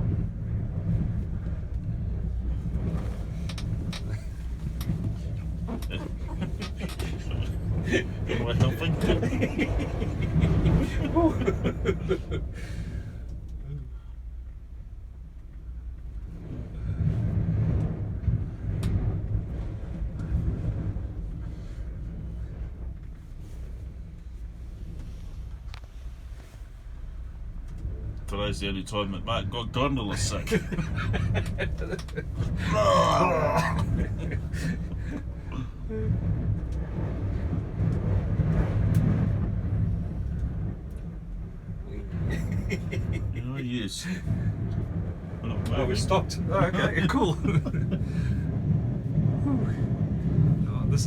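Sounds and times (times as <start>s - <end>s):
wind rumble in gondola cabin: 0.0s - 51.0s.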